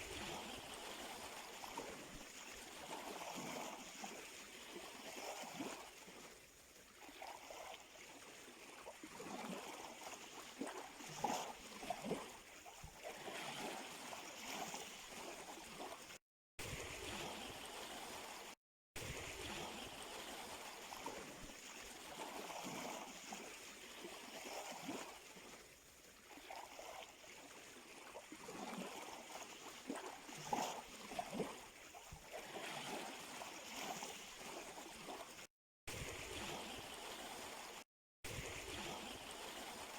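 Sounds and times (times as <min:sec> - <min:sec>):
sea water lapping at shore: 0:00.0 - 0:39.9
small water splashes: 0:00.0 - 0:39.9.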